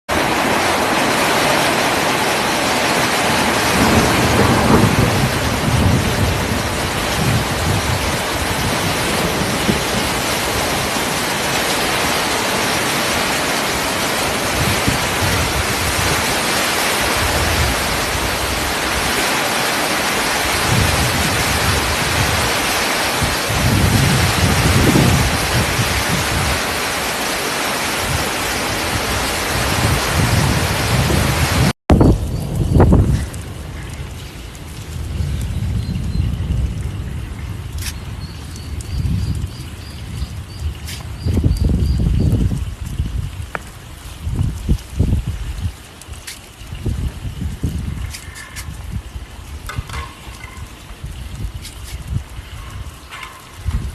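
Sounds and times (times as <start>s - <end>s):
heavy rain pouring: 0.1s - 53.9s.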